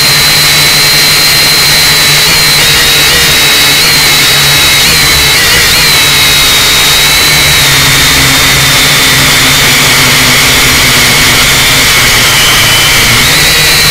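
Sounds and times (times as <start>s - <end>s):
drone motors whining: 0.0s - 13.9s.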